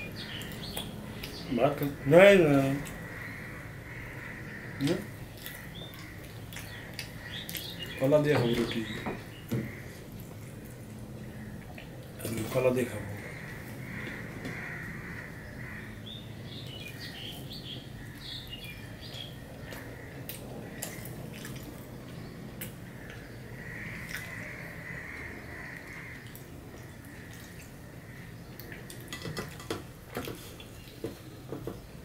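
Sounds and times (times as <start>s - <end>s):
steady low hum: 0.0s - 29.2s.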